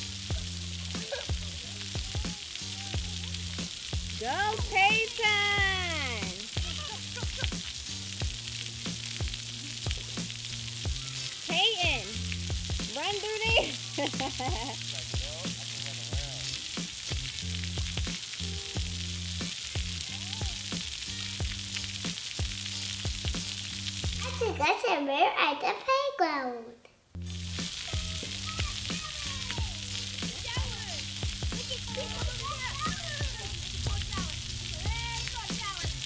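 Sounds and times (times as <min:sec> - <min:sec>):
background music with bass line: 0:00.0 - 0:24.6, 0:27.2 - 0:36.0
steady crackling hiss: 0:00.0 - 0:36.0.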